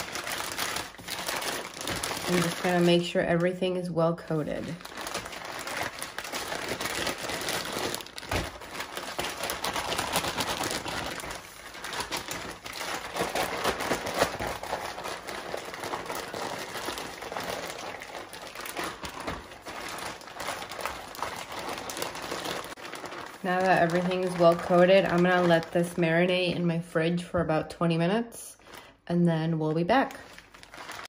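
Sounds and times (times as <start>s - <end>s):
plastic bag crinkling: 0.0s - 26.6s, 29.9s - 31.0s.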